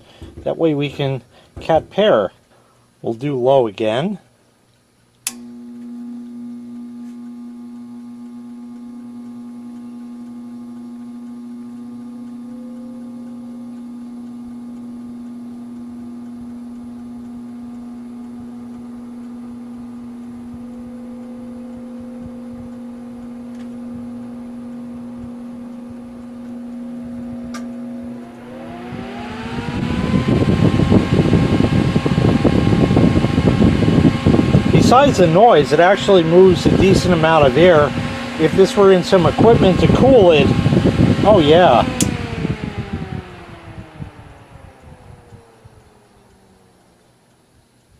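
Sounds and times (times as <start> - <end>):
fan motor hum: 0.0 - 47.9.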